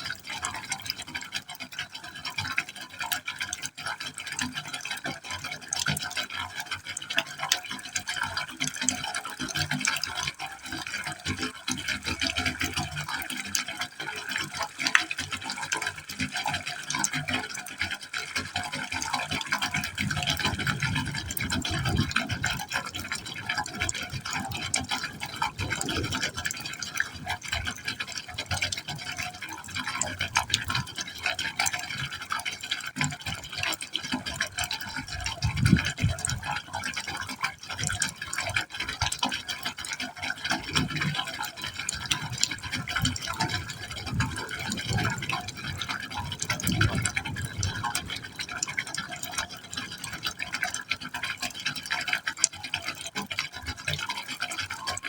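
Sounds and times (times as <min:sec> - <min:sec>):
water pouring into a pipe: 0:00.0 - 0:55.0.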